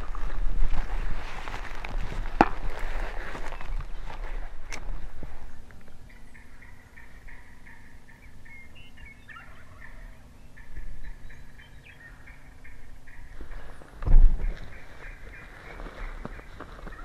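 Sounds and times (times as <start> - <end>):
wild turkey calling: 2.6 - 17.0.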